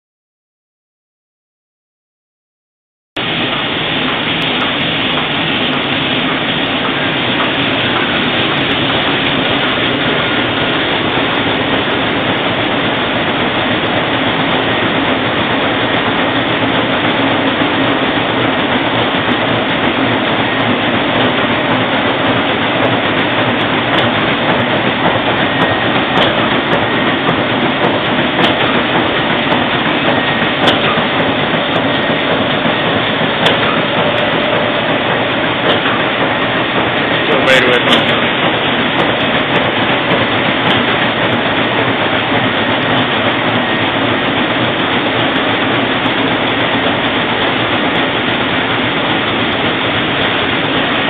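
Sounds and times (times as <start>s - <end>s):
printing press running: 3.2s - 51.0s.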